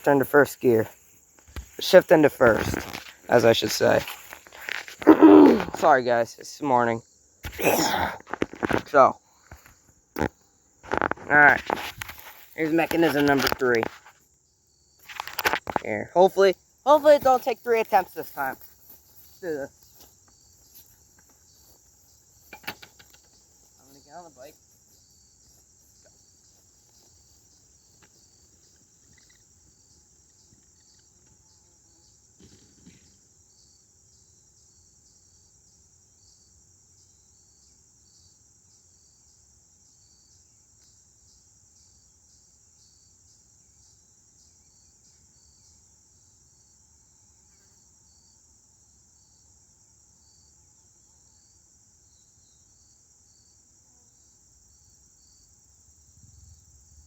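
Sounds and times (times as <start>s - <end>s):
crickets chirping: 0.0s - 57.0s
insect drone: 0.0s - 57.0s.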